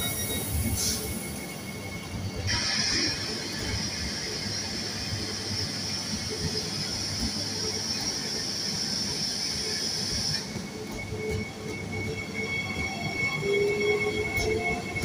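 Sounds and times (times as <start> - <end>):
low rising wheel squeal: 0.0 - 3.8, 6.7 - 15.0
high wheel squeal on rails: 0.0 - 15.0
train rolling with high hiss: 0.0 - 15.0.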